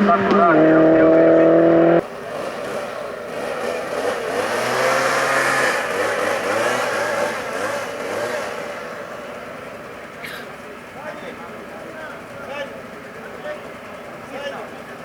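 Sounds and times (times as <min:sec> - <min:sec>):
race car engine revving: 0:00.0 - 0:12.5.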